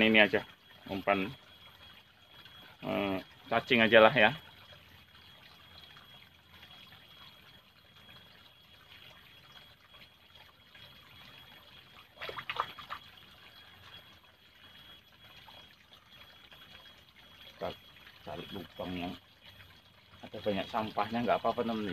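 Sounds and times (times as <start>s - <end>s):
water trickling in ditch: 0.0s - 21.9s.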